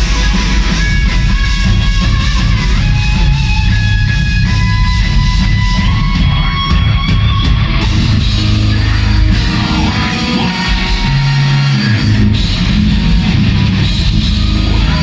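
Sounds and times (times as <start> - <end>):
death metal band playing: 0.0 - 15.0.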